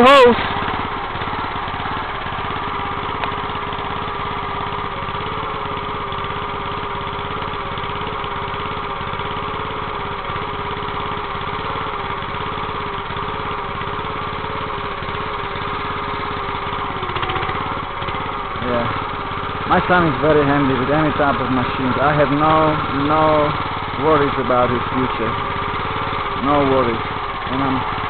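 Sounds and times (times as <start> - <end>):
small gasoline engine idling: 0.0 - 28.0.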